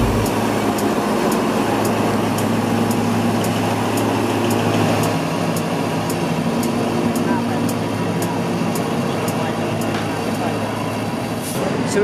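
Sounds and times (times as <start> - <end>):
diesel locomotive engine droning: 0.0 - 12.0.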